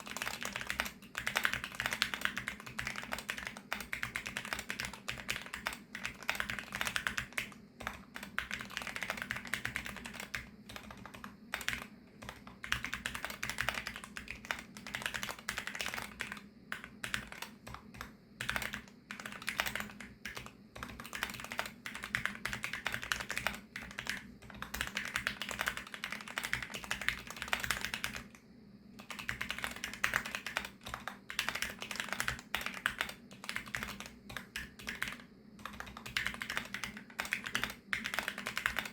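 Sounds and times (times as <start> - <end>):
fast typing on mechanical keyboard: 0.0 - 28.4, 29.0 - 38.9.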